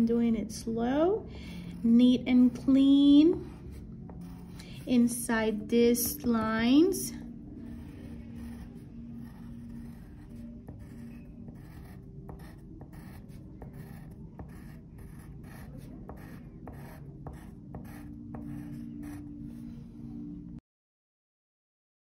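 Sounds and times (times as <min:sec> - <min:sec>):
pencil scratching on paper: 0:01.6 - 0:19.6.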